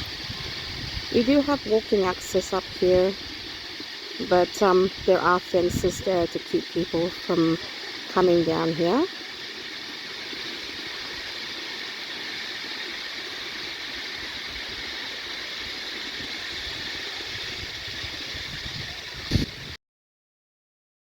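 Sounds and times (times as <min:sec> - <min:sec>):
waterfall rushing: 0:00.0 - 0:19.8.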